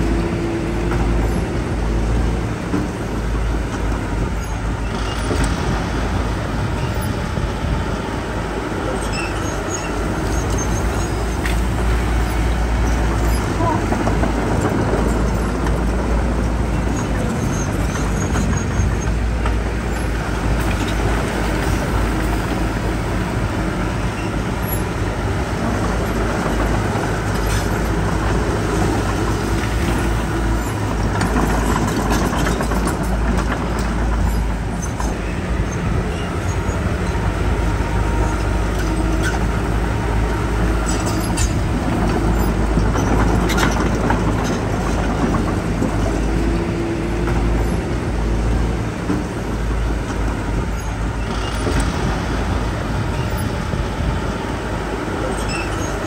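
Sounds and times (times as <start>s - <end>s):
heavy machinery diesel rumble: 0.0s - 56.0s.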